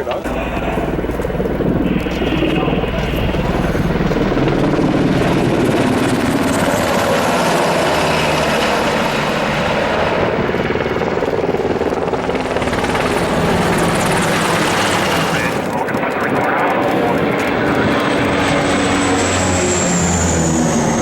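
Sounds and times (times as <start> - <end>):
propeller aircraft flying over: 0.0 - 21.0.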